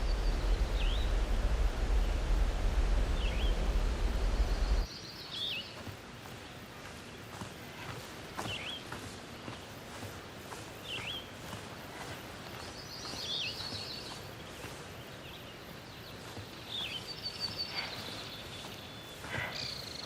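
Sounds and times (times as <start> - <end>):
birds calling: 0.0 - 20.0
outdoor background hiss: 0.0 - 20.0.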